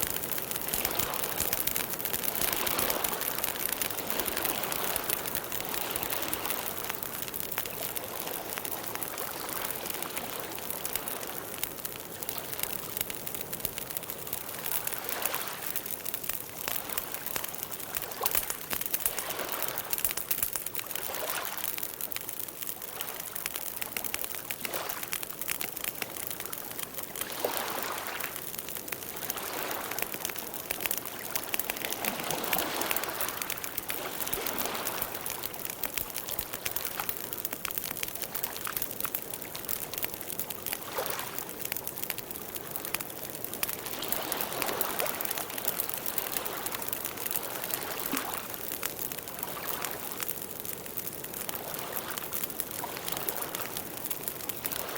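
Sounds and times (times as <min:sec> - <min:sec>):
wood crackling and popping: 0:00.0 - 0:54.9.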